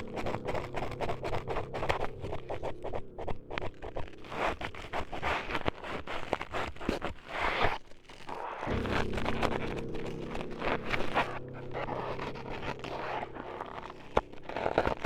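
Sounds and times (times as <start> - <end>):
scratching and scraping on microphone: 0.0 - 15.0.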